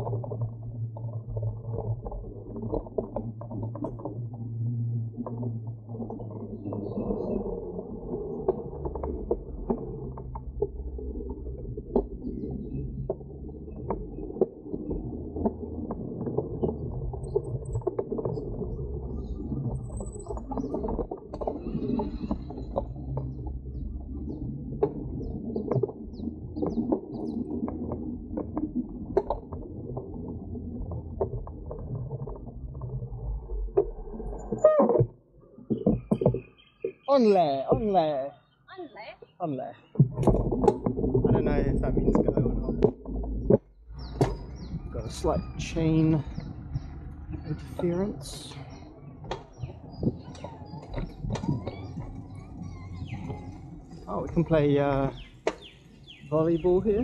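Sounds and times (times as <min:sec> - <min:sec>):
bike clicks and rattles: 0:00.0 - 0:32.8, 0:40.2 - 0:57.0
bicycle tyres rumbling on path: 0:00.0 - 0:37.1, 0:39.9 - 0:57.0.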